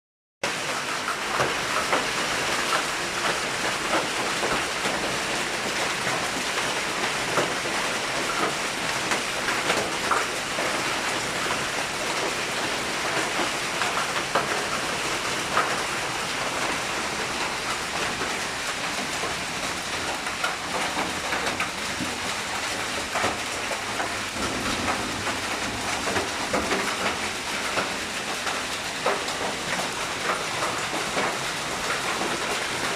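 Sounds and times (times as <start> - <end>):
rain and hail falling: 0.4 - 32.9
hailstones clicking: 0.5 - 32.9.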